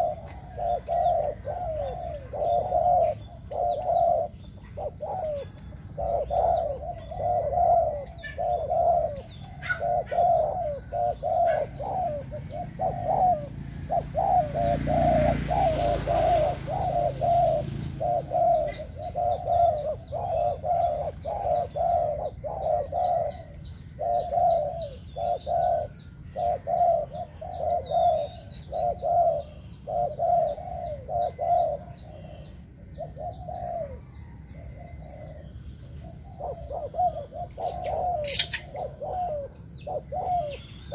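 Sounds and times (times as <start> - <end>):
dove cooing: 0.0 - 40.9
small birds chirping: 0.0 - 40.9.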